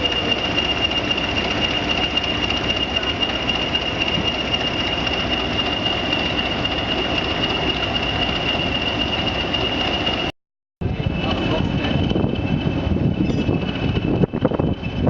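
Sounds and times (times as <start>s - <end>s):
high whine: 0.0s - 15.0s
train rumbling on rails: 0.0s - 15.0s.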